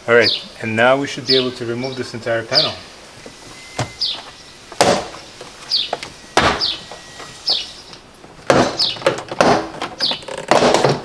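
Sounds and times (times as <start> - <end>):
bird chirping: 0.0 - 9.2, 9.9 - 10.4.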